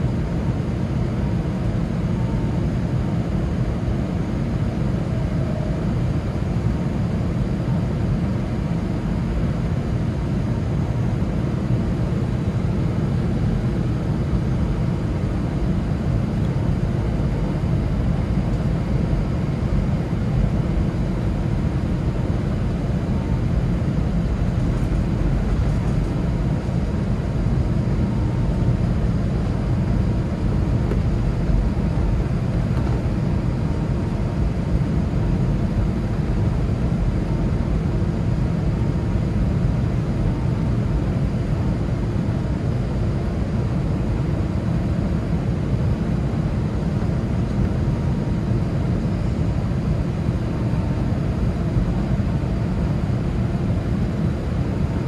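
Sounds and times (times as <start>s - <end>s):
aircraft cabin engine rumble: 0.0s - 55.0s
faint steady engine whine: 0.0s - 55.0s.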